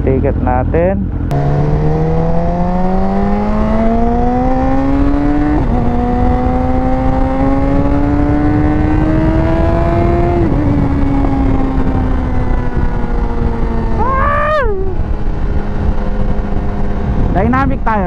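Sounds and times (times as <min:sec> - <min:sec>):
motorcycle engine accelerating: 0:00.0 - 0:18.0
wind rush: 0:01.2 - 0:18.0.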